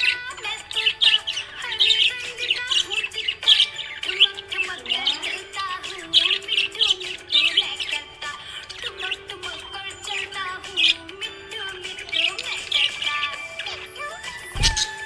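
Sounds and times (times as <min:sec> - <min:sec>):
background music: 0:00.0 - 0:15.0
budgerigars chirping and warbling: 0:00.0 - 0:15.0.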